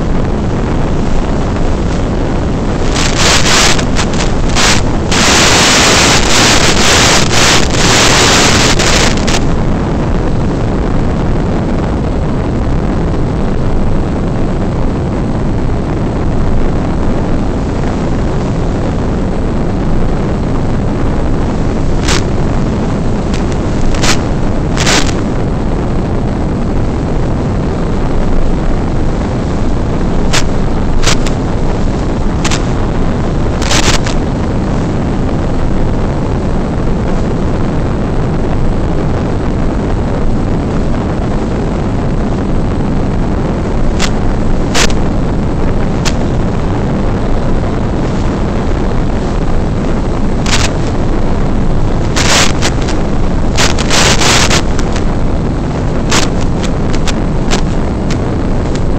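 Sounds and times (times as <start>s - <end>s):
radio static hiss: 0.0s - 58.9s
static crackles: 0.0s - 58.9s
steady rushing noise: 0.0s - 58.9s.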